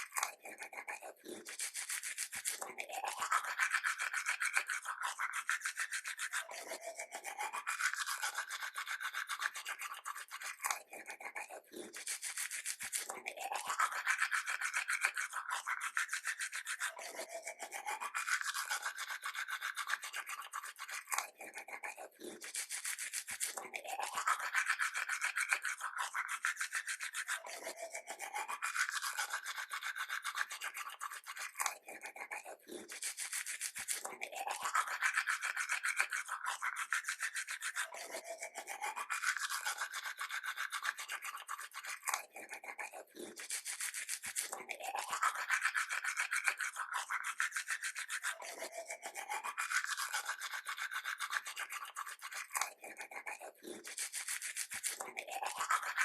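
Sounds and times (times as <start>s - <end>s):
toothbrush scrubbing teeth: 0.0s - 56.0s.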